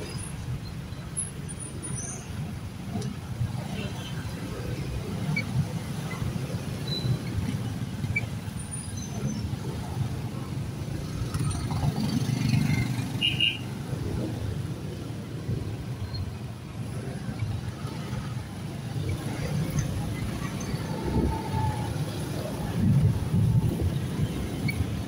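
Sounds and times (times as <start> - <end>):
motorcycle engines rumbling: 0.0 - 25.0
road traffic: 0.0 - 25.0.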